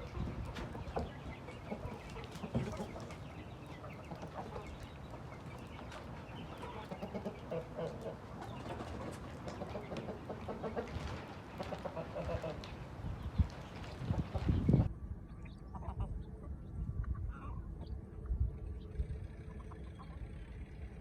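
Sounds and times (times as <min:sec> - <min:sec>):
chickens clucking: 0:00.0 - 0:14.9, 0:15.7 - 0:17.9.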